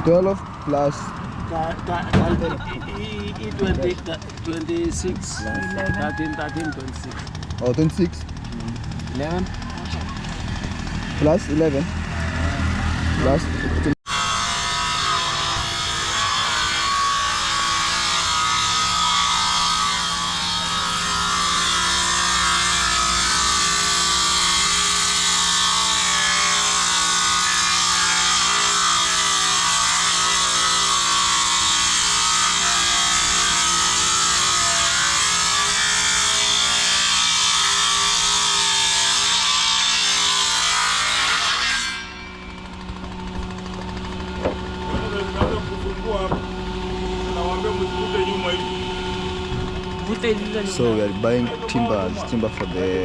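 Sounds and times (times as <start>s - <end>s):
woodworking machine cutting timber: 0.0s - 53.0s.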